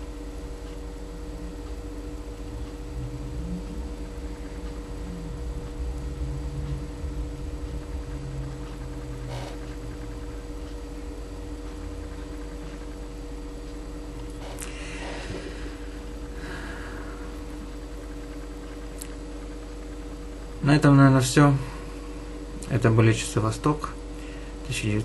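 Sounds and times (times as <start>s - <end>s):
background hum with low rumble: 0.0s - 25.0s.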